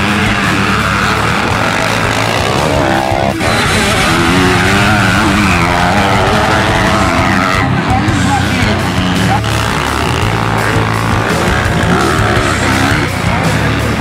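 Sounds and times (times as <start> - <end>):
background music: 0.0 - 14.0
motocross bike engines revving: 0.0 - 14.0.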